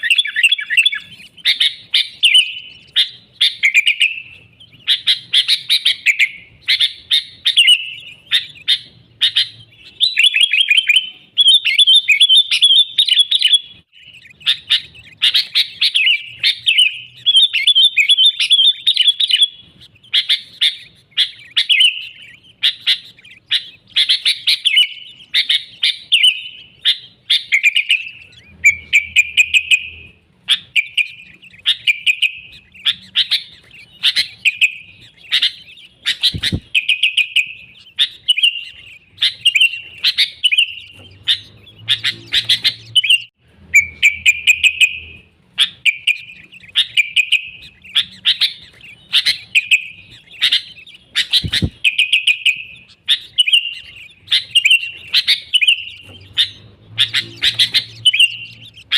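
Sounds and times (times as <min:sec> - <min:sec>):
bulbul chattering song: 0:00.0 - 0:58.9.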